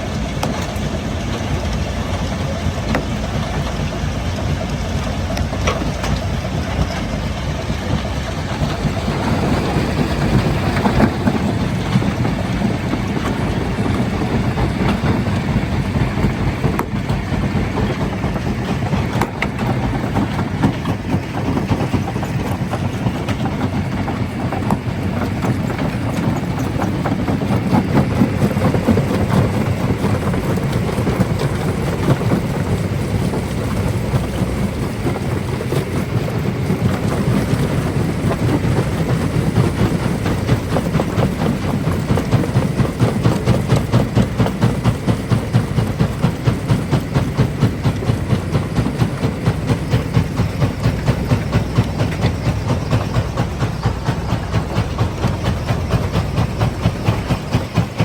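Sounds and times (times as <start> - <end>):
stone crusher rumbling: 0.0 - 58.0.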